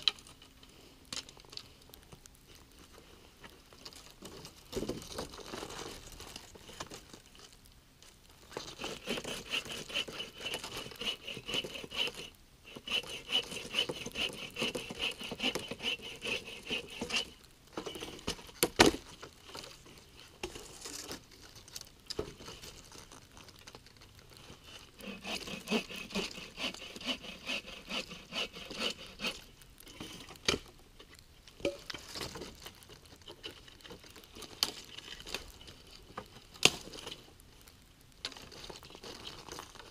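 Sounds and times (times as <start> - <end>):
branches scraping and rustling: 0.0 - 12.3, 12.9 - 26.9, 28.3 - 39.9.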